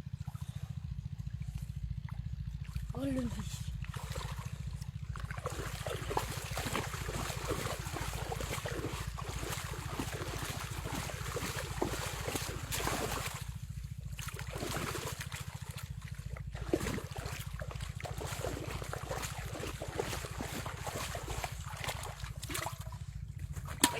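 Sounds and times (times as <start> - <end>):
water splashing: 2.6 - 23.9.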